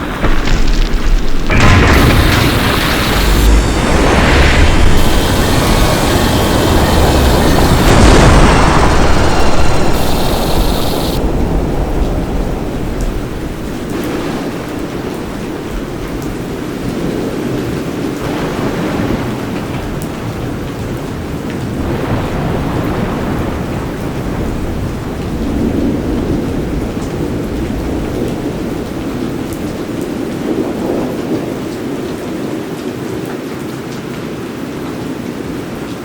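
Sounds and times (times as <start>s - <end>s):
low rolling thunder: 0.0s - 29.4s
steady rain: 0.0s - 36.0s.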